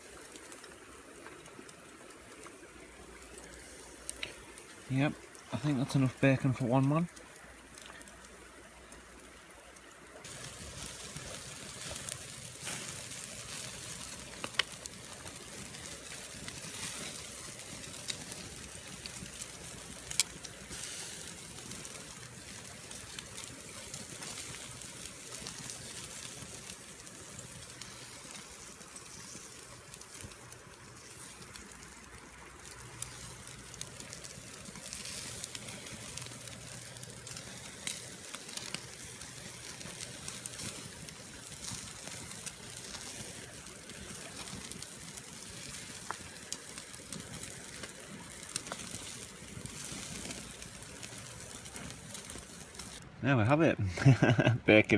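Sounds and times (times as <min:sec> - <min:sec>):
bacon sizzling on a grill: 0:00.0 - 0:53.0
campfire crackling and popping: 0:00.0 - 0:54.9.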